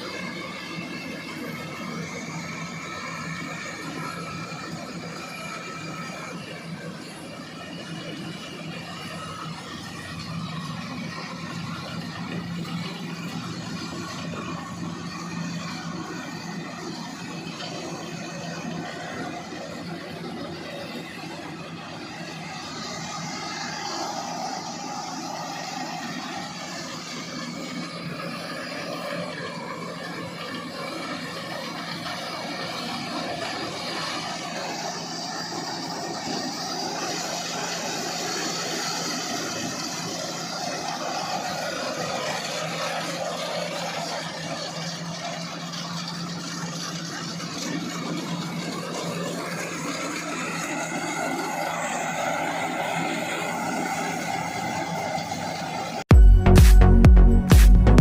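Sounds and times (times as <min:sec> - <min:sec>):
harvester engine running: 0:00.0 - 0:58.0.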